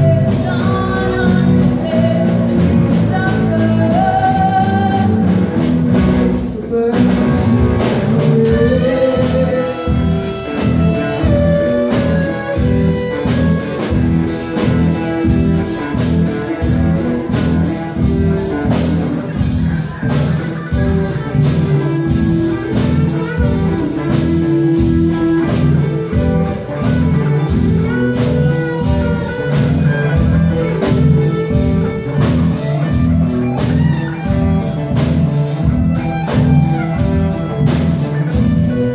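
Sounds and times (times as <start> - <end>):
bass guitar: 0.0 - 38.9
drum kit beat: 0.0 - 38.9
electric guitars: 0.0 - 38.9.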